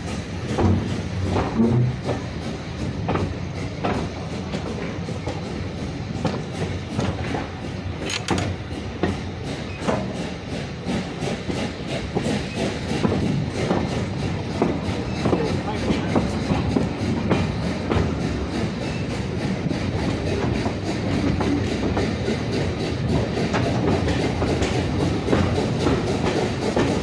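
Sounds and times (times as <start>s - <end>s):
train rumbling: 0.0s - 27.0s
train wheels knocking and clicking: 0.0s - 27.0s.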